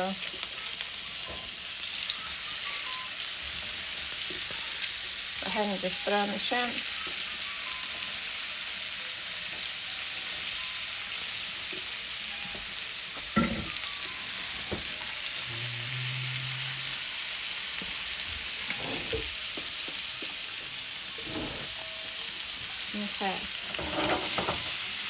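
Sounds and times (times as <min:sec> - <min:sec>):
shrimp sizzling in a hot pan: 0:00.0 - 0:25.0.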